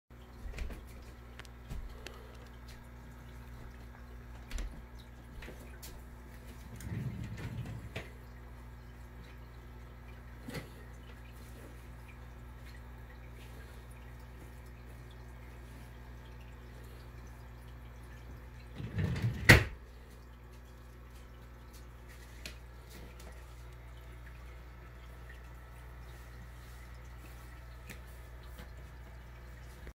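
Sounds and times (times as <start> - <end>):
water bubbling and dripping: 0.2 - 18.8, 19.8 - 29.9
aquarium air pump humming: 0.2 - 29.9.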